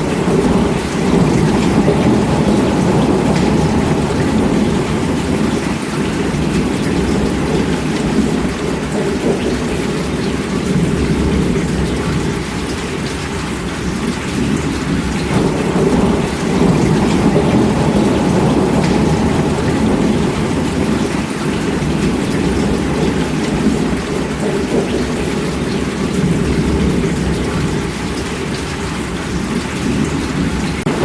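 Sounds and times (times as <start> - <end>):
heavy rain falling: 0.0 - 31.0
thunder rumbling: 0.0 - 31.0.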